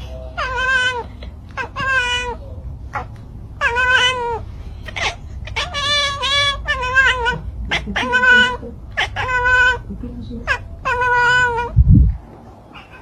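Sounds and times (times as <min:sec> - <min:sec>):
cat meowing: 0:00.1 - 0:11.8, 0:12.7 - 0:13.0.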